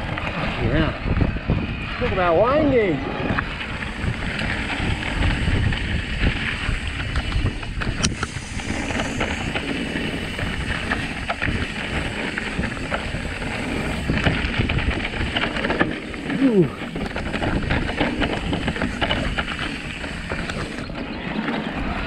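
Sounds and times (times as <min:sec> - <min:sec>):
bike tyre noise: 0:00.0 - 0:22.0
wind rushing over microphone: 0:00.0 - 0:22.0
bike rattling clicks and knocks: 0:02.2 - 0:22.0.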